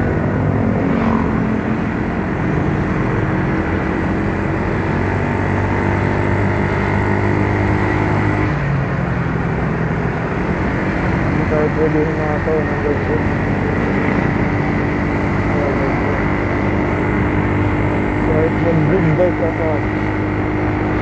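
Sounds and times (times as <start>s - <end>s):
road and wind noise: 0.0s - 21.0s
scooter engine running: 0.0s - 21.0s.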